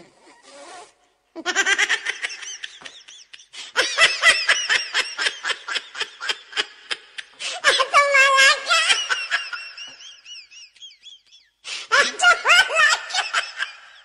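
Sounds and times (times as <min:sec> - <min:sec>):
women laughing: 0:01.4 - 0:14.0.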